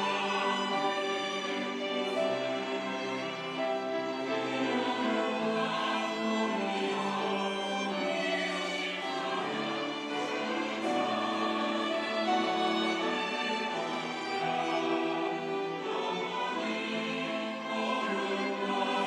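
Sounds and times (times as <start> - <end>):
church choir singing: 0.0 - 19.0.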